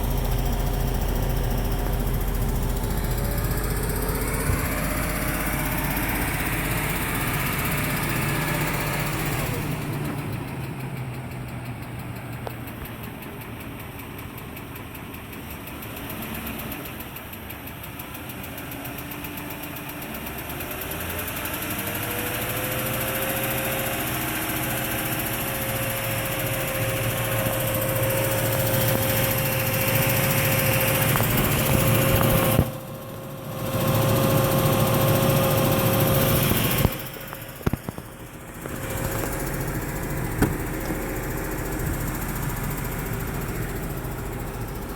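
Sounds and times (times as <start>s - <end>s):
engine whine: 0.0s - 13.6s, 18.8s - 44.9s
car engine idling with ticking: 0.0s - 44.9s.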